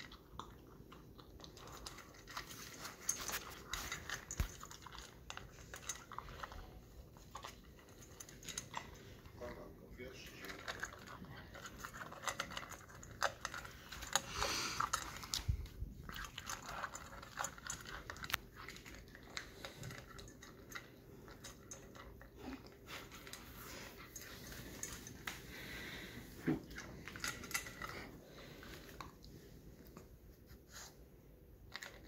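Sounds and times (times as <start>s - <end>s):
puppy crunching food: 0.0s - 30.8s, 31.4s - 32.0s.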